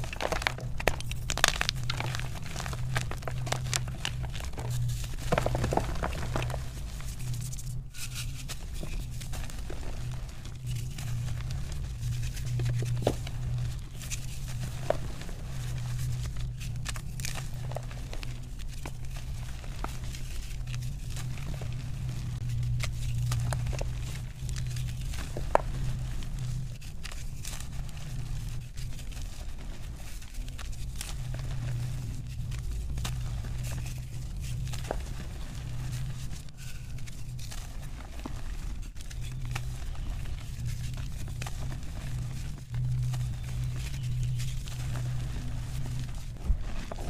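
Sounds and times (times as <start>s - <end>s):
chalk crumbling by hand: 0.0s - 47.0s
steady low hum: 0.0s - 47.0s.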